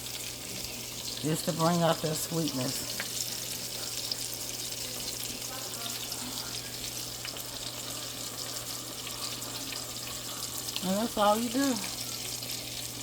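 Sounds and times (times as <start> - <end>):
tomatoes sizzling in oil: 0.0 - 13.0.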